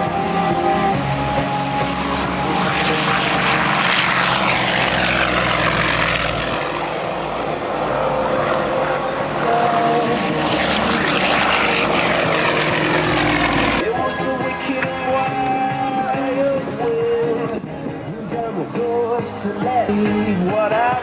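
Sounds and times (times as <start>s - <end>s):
propeller aircraft flying past: 0.0s - 19.5s.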